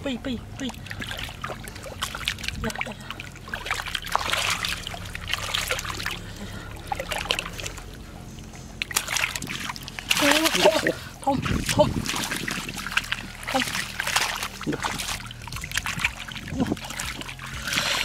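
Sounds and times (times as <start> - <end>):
faint low hum: 0.0 - 18.0
water splashing and trickling: 0.0 - 18.0.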